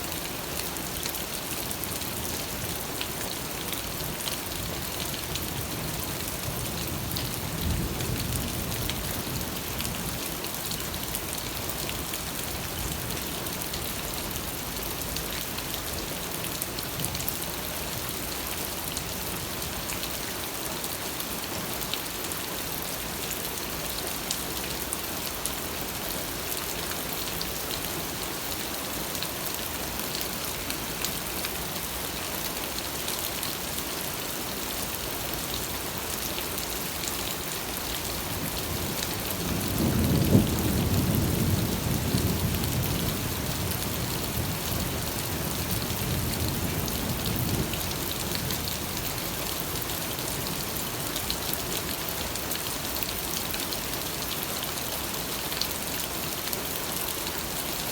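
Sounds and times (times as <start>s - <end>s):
rain falling: 0.0s - 57.9s
raindrops ticking on surfaces: 0.1s - 57.9s.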